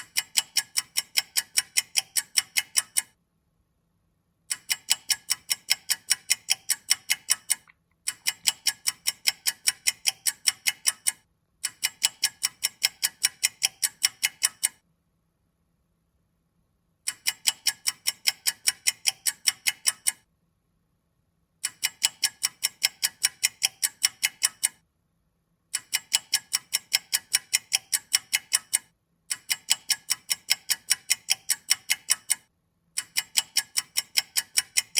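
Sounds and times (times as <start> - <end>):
clock ticking: 0.0 - 3.2, 4.5 - 14.8, 17.1 - 20.3, 21.6 - 24.8, 25.7 - 34.9.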